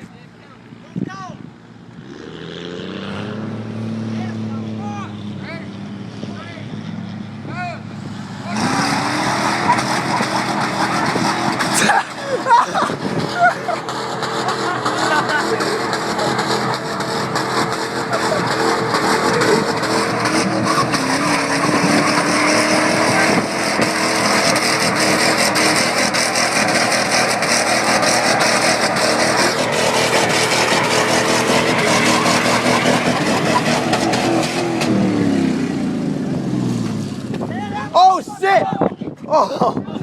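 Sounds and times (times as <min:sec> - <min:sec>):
truck engines revving hard: 0:00.6 - 0:39.9.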